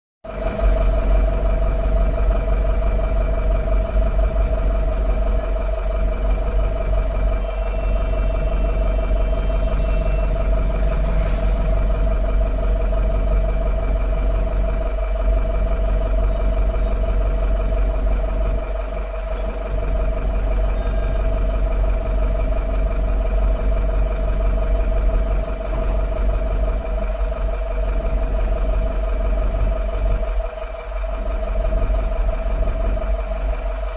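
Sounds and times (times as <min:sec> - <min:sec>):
truck engine rumble: 0:00.2 - 0:33.9.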